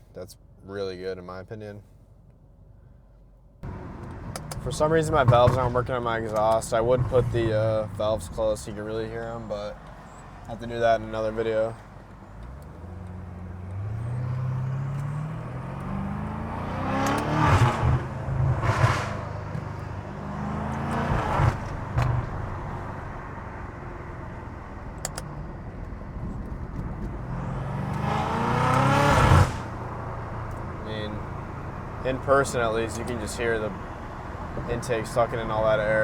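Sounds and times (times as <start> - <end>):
car engine accelerating hard: 3.6 - 36.0.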